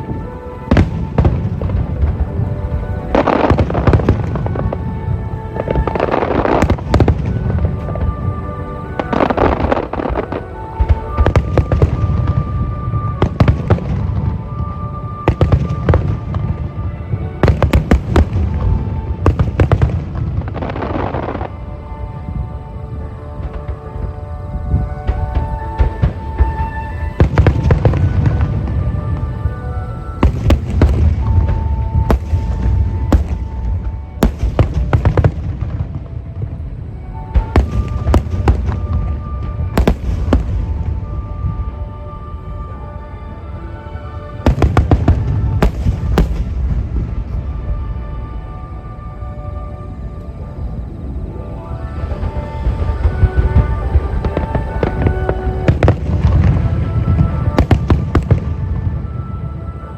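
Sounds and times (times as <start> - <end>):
fireworks bursting with sharp bangs: 0.0 - 21.6, 24.8 - 41.8, 44.4 - 47.9, 52.0 - 59.2
music playing: 0.0 - 59.9.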